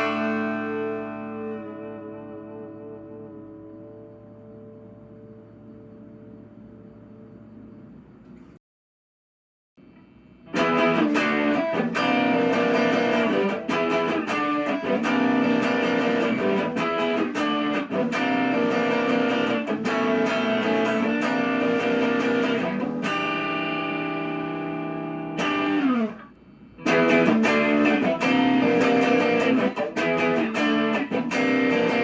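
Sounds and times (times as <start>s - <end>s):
electric guitar notes and chords: 0.0s - 6.7s, 10.5s - 32.0s.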